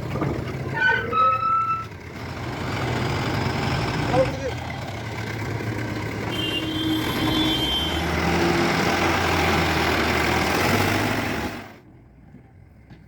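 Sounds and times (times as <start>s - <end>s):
heavy diesel engine running: 0.0s - 11.9s.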